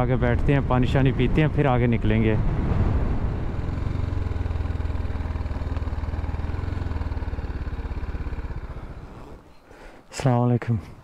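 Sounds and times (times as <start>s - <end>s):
motorcycle engine running at low revs: 0.0s - 9.4s.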